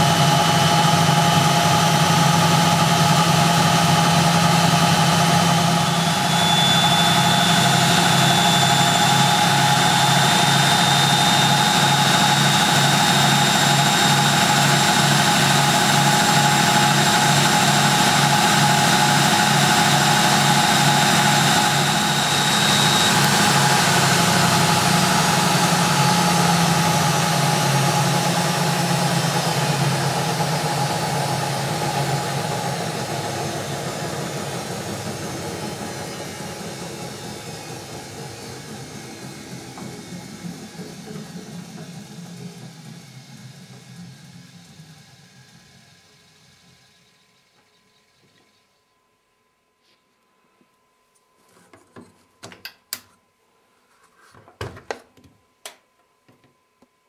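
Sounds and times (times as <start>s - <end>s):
washing machine spinning: 0.0s - 47.6s
high motor whine: 0.0s - 49.3s.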